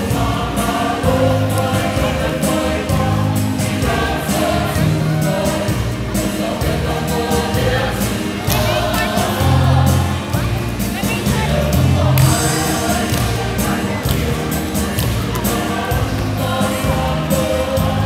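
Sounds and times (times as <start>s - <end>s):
group singing in chorus: 0.0s - 18.0s.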